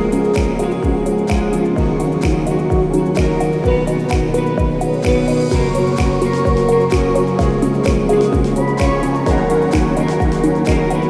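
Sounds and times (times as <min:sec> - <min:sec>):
melodic music with kick drum: 0:00.0 - 0:11.0.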